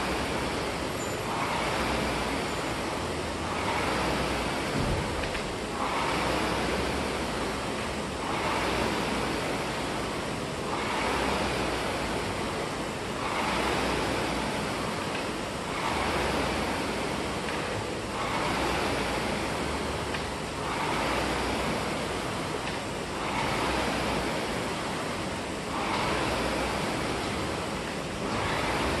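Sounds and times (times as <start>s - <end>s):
rowing machine fan whooshing: 0.0s - 29.0s.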